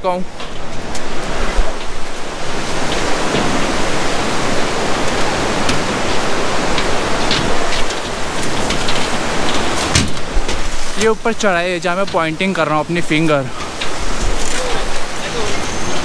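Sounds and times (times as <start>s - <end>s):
river whitewater rushing: 0.0s - 16.0s.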